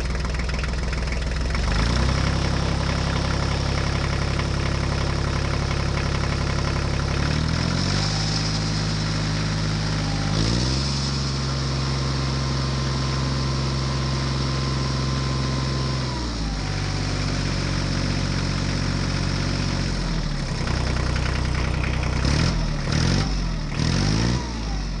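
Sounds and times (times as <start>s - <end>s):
engine revving: 1.4s - 5.6s, 6.4s - 17.9s, 19.6s - 25.0s.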